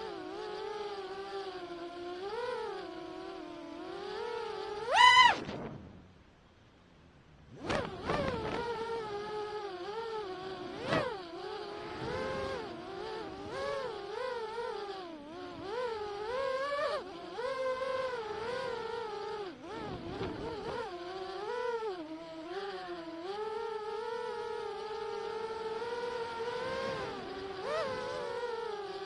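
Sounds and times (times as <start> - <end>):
drone propellers whining: 0.0 - 6.0, 7.4 - 29.0.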